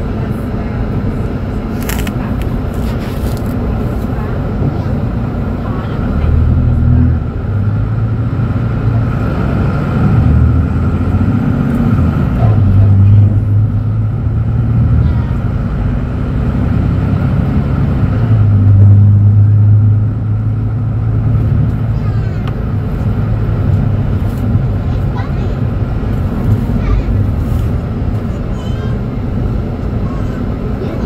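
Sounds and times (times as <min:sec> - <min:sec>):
bus diesel engine idling: 0:00.0 - 0:31.0
faint engine whine: 0:00.0 - 0:31.0.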